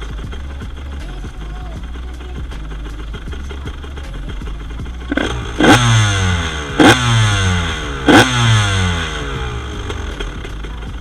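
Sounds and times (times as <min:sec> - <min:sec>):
two-stroke engine idling and revving: 0:00.0 - 0:11.0.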